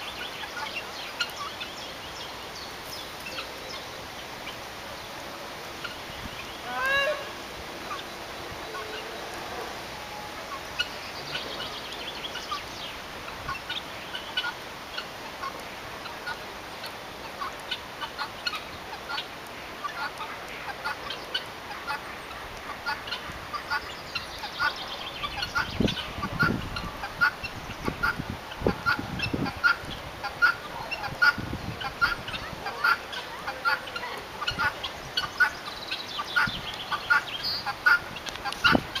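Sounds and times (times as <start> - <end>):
birds calling: 0.0 - 39.0.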